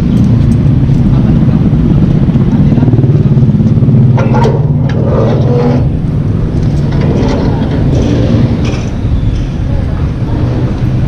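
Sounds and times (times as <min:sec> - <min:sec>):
scooter engine running: 0:00.0 - 0:09.1.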